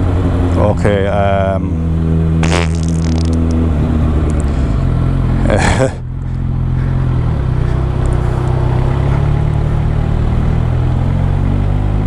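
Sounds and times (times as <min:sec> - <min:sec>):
motorcycle engine running: 0:01.7 - 0:12.0.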